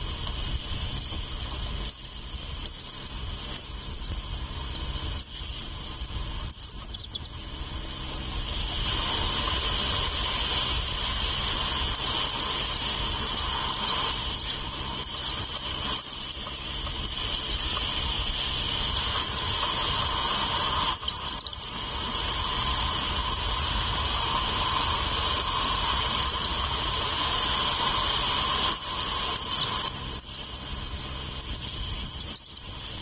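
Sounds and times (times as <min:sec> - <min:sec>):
insect chorus trilling: 0:00.0 - 0:33.0.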